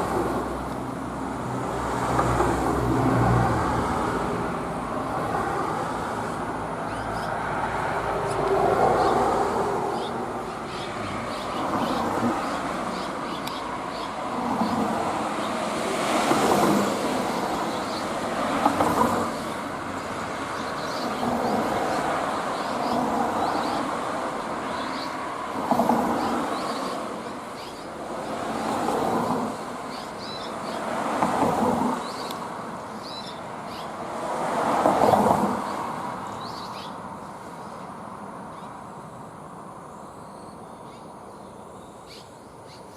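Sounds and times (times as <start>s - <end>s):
cars passing: 0.0s - 42.9s.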